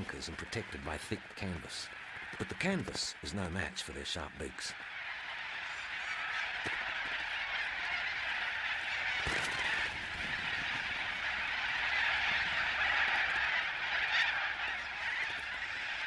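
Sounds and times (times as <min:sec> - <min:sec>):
flock of birds screeching: 0:00.0 - 0:16.0.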